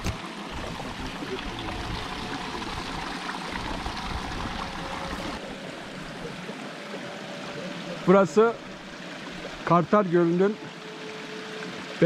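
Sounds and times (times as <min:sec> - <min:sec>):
spring water trickling: 0:00.0 - 0:12.0.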